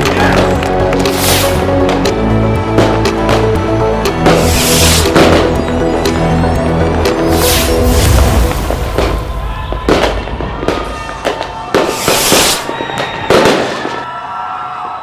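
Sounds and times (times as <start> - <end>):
music tones: 0.0 - 12.0
fireworks bangs and crackling: 0.0 - 14.9.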